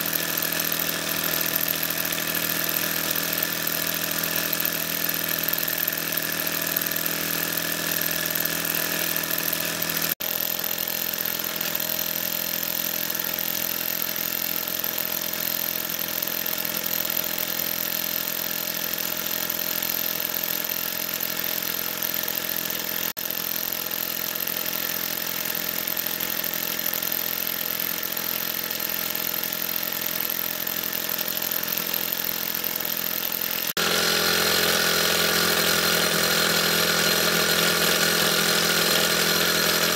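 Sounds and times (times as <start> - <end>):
model steam engine chuffing: 0.0 - 39.9.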